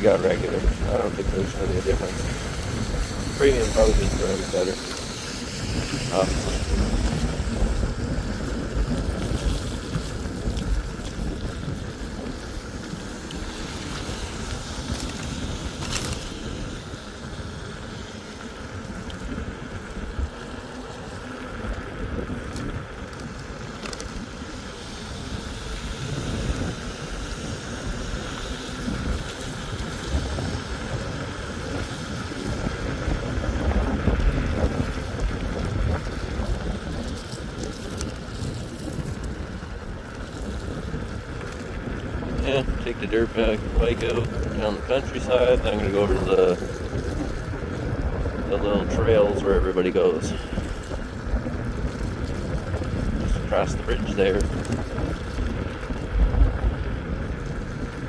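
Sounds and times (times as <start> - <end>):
tyres hissing on wet road: 0.0 - 58.0
wind rumbling on microphone: 0.0 - 58.0.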